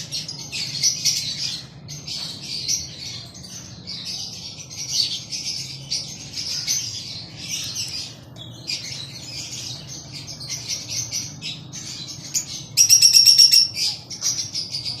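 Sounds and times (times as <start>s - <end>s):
bird trill: 0.0s - 15.0s
lovebirds chirping: 0.0s - 15.0s.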